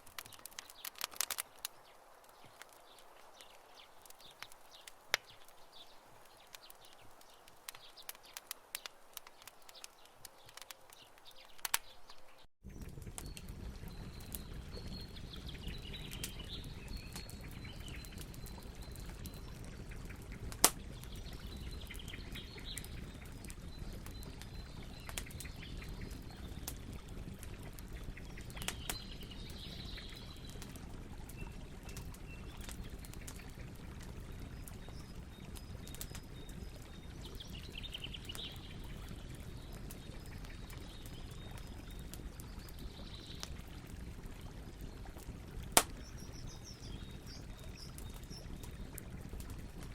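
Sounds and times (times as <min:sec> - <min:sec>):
campfire crackling: 0:00.0 - 0:49.9
birds chirping: 0:00.1 - 0:43.6.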